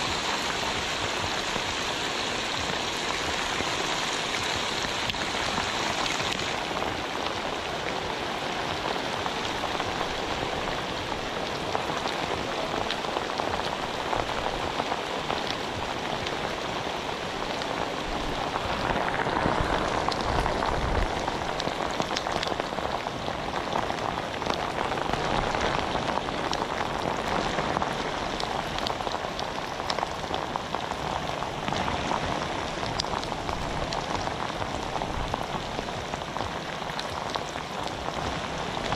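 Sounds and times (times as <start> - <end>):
rain falling on river: 0.0 - 38.9.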